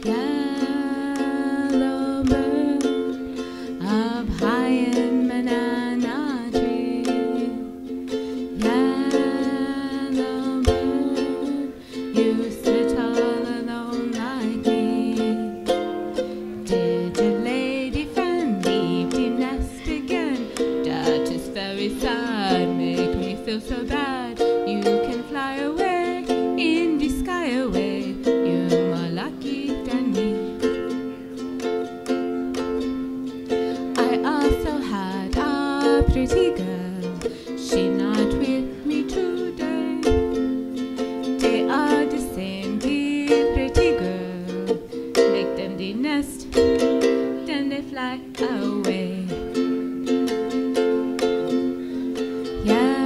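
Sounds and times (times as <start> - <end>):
strummed ukulele chords: 0.0 - 53.0
woman singing: 0.0 - 53.0.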